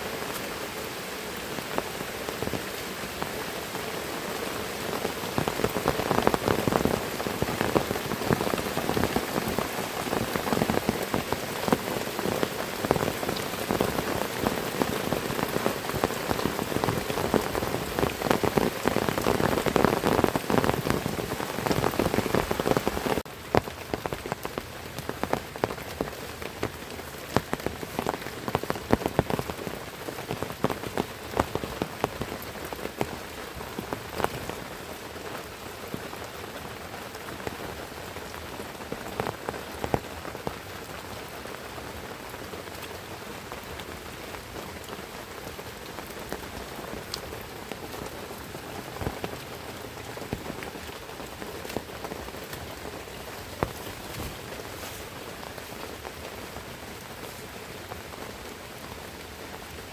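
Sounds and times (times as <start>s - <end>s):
heavy rain falling: 0.0s - 59.9s
raindrops striking close by: 0.0s - 59.9s.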